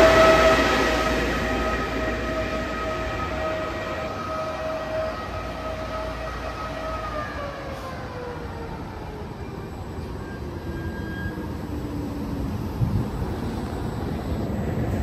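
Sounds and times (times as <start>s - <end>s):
electric train whine: 0.0s - 15.0s
train wheels rumbling: 0.0s - 15.0s.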